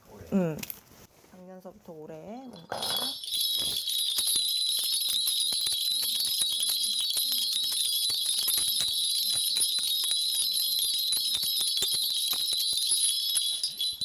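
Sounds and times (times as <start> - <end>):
brass bells jingling: 2.4 - 14.0.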